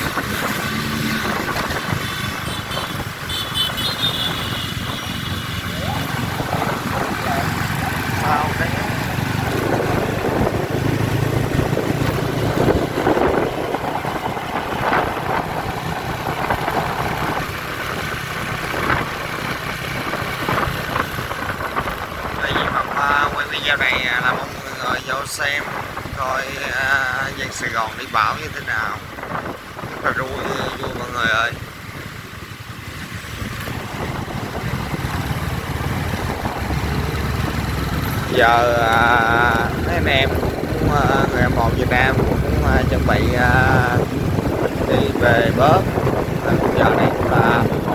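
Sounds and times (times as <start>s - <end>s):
motorbike engines in traffic: 0.0s - 47.9s
wind buffeting microphone: 0.0s - 47.9s.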